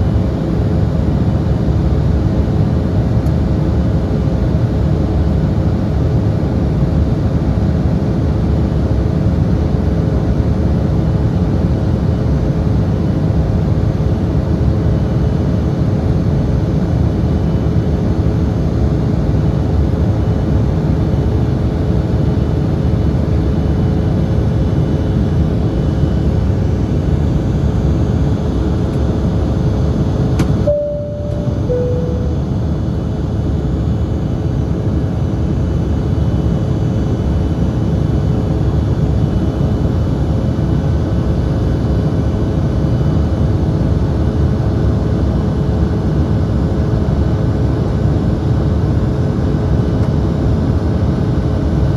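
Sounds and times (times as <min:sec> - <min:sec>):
jet cabin engine roar: 0:00.0 - 0:51.9.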